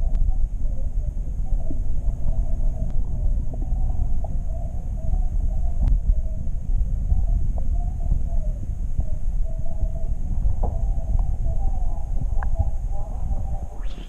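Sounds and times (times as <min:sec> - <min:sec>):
faint wavering hum: 0:00.0 - 0:14.0
low underwater rumble: 0:00.0 - 0:14.0.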